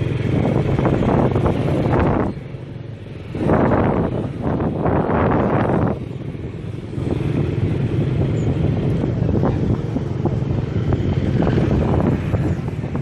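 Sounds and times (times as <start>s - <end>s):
vehicle engine running: 0.0s - 13.0s
wind on microphone: 0.0s - 13.0s.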